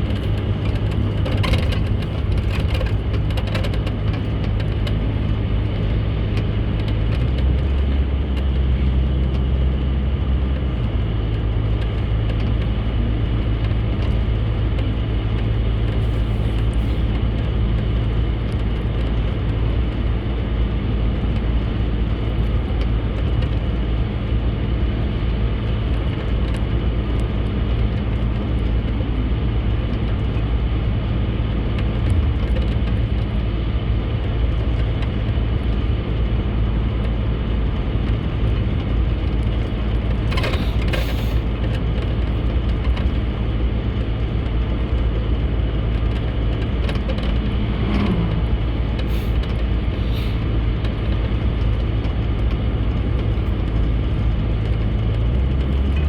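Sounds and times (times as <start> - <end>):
car road drone from inside: 0.0 - 56.0.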